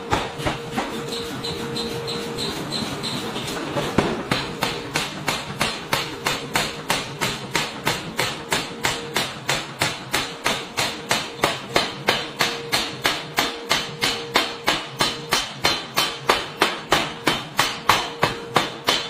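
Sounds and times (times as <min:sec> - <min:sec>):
forging hammer pounding steel: 0:00.0 - 0:19.0.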